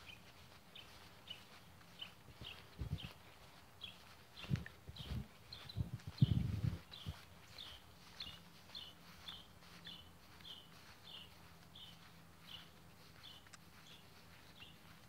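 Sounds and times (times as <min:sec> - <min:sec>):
small bird chirping faintly: 0:00.0 - 0:15.0.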